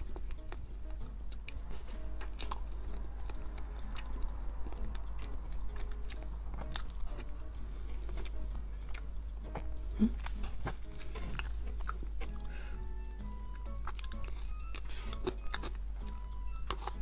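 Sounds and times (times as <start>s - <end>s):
chewing and lip smacks: 0.1s - 7.4s, 8.0s - 12.5s, 13.5s - 17.0s.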